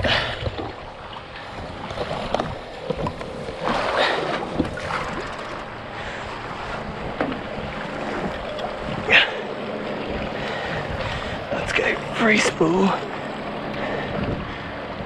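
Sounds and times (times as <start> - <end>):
water sloshing against boat: 0.0 - 15.0
wind buffeting microphone: 0.0 - 15.0.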